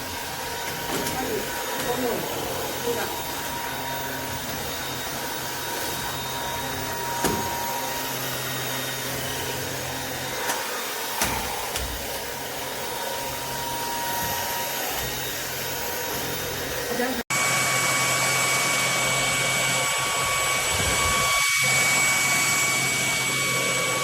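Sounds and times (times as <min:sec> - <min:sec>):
stick vacuum cleaner whining: 0:00.0 - 0:24.0.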